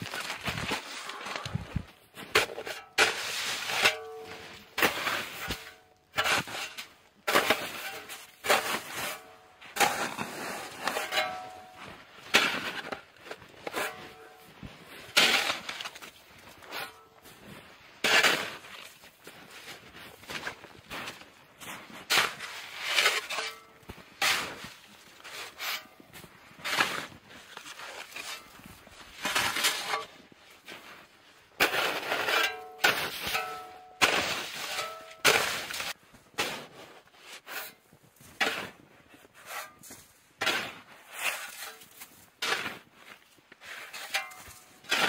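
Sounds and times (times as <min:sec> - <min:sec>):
shovel crunching and scraping snow: 0:00.0 - 0:45.0.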